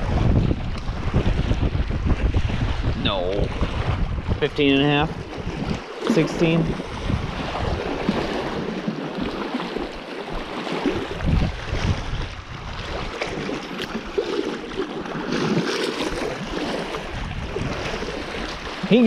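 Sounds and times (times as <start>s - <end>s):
waves lapping on rocky shore: 0.0s - 19.0s
wind gusting on microphone: 0.0s - 19.0s.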